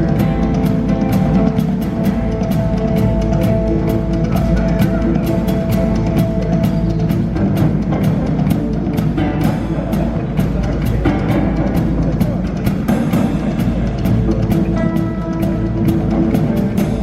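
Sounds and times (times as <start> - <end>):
drums beating: 0.0 - 17.0
rock band playing: 0.0 - 17.0.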